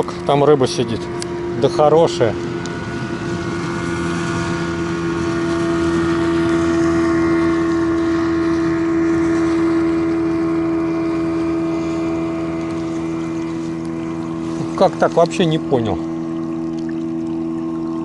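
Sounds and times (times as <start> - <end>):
motorboat engine running: 0.0 - 18.0.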